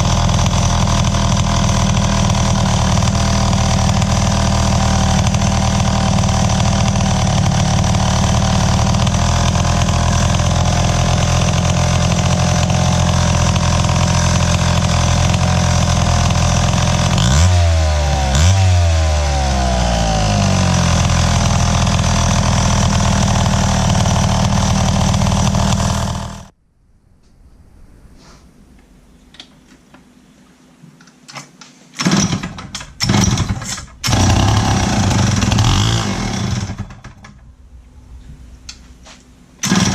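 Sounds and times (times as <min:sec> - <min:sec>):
chainsaw engine running: 0:00.0 - 0:26.5, 0:32.0 - 0:37.2, 0:39.6 - 0:39.9.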